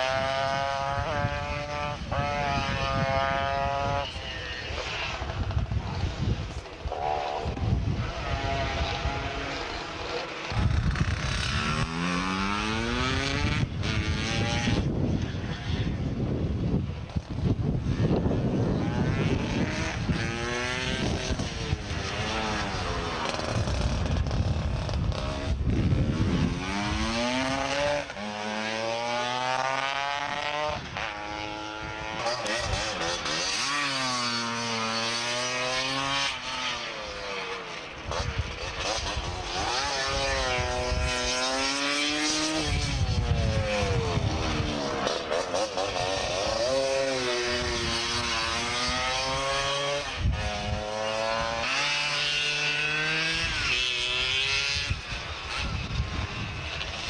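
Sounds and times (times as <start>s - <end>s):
scooter engines revving: 0.0s - 57.0s.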